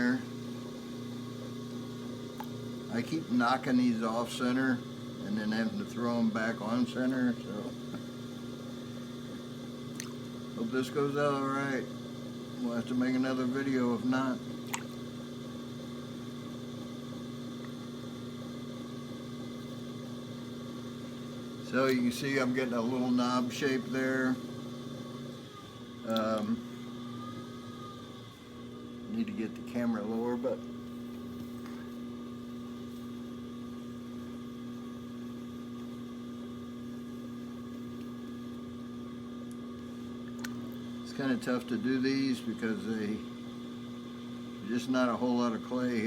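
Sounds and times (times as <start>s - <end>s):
potter's wheel motor humming: 0.0s - 46.0s.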